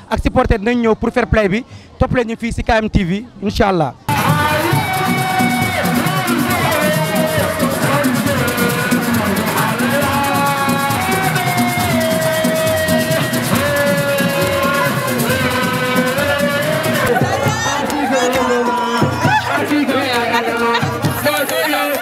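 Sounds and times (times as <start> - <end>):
fast percussion with shakers: 4.1 - 22.0.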